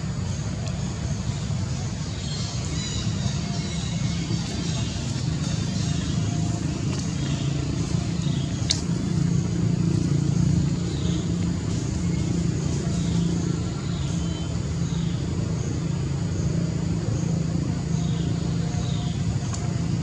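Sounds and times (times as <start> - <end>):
low motor hum: 0.0 - 20.0.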